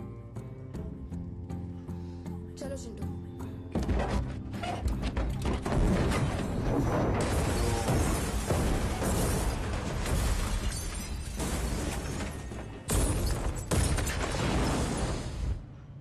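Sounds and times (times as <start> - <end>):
dramatic film score: 0.0 - 16.0.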